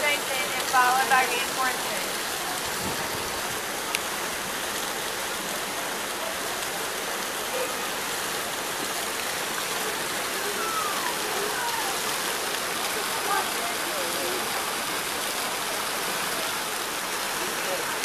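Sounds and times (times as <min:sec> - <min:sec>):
waterfall splashing into pool: 0:00.0 - 0:18.0.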